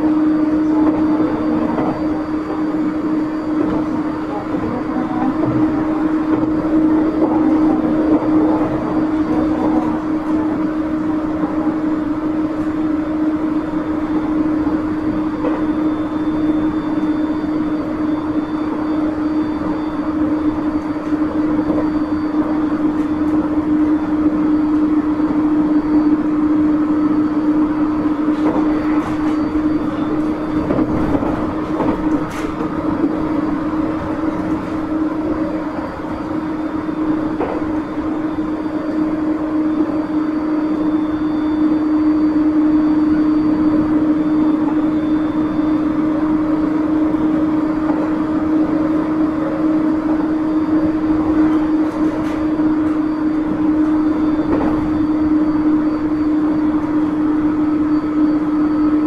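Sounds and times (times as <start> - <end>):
wheels rumbling on rails: 0.0 - 41.0, 42.4 - 57.8
electric train hum: 0.0 - 59.0.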